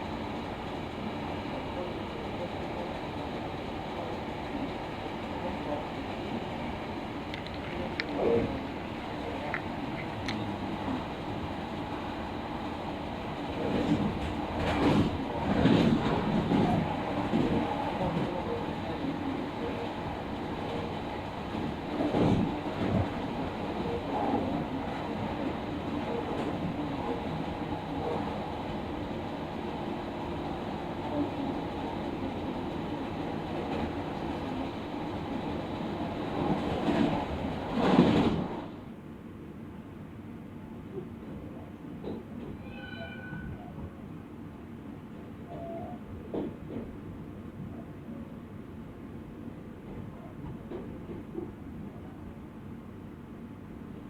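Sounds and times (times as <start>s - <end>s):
train rattling over track: 0.0s - 38.9s, 45.4s - 47.8s, 49.1s - 52.1s
train rumbling on rails: 0.0s - 54.0s.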